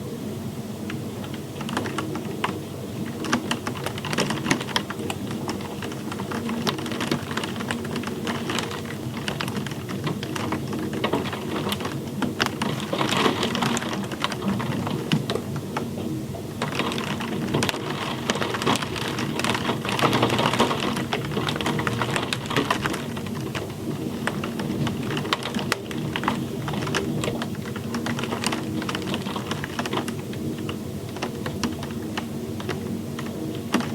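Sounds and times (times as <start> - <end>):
rain ticking on a hard surface: 0.0 - 33.9.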